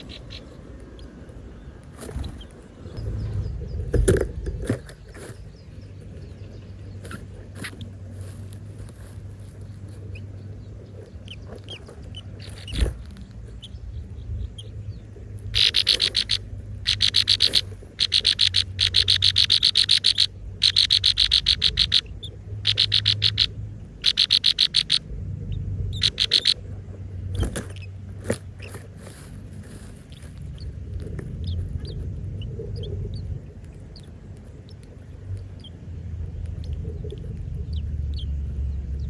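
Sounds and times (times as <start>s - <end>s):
nestling birds begging chirps: 0.0s - 39.0s
steady low hum: 0.0s - 39.0s.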